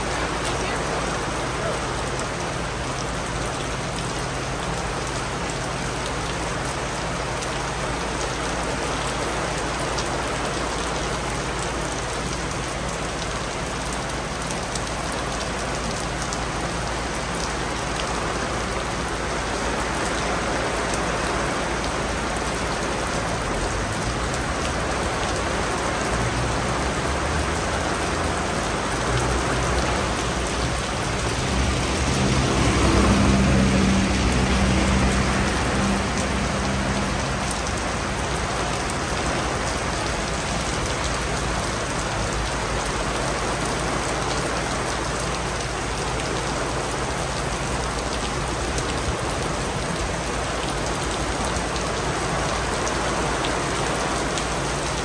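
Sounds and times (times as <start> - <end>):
rain falling on hard surfaces: 0.0 - 55.0.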